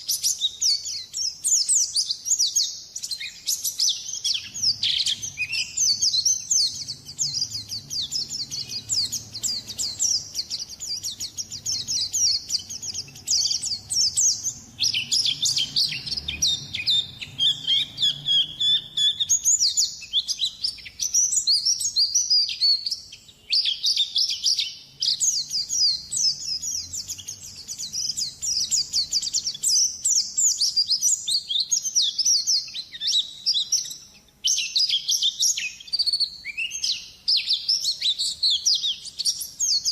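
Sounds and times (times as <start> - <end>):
bird twittering and chirping: 0.0 - 39.9.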